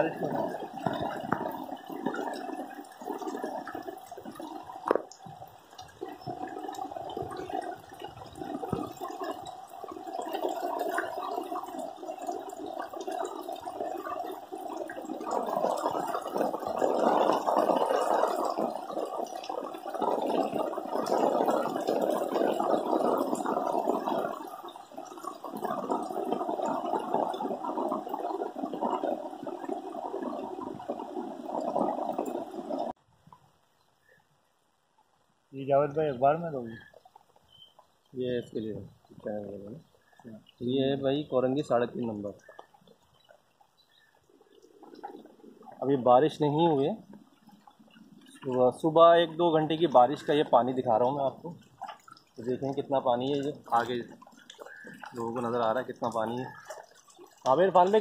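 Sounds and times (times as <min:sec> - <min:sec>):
rainwater splashing and pouring: 0:00.0 - 0:33.0, 0:35.6 - 0:58.0.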